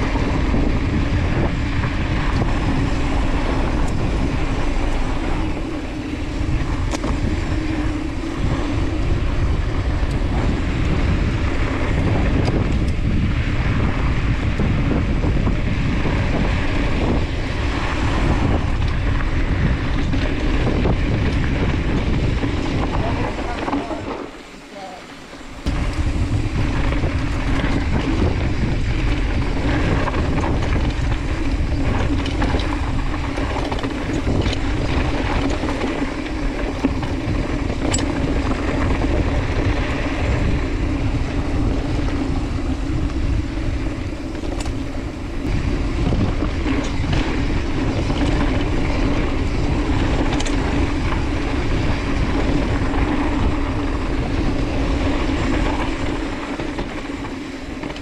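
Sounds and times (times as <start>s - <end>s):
bike clicks and rattles: 0.0s - 58.0s
tyre hum and rumble on dirt: 0.0s - 58.0s
wind noise on microphone: 0.0s - 58.0s.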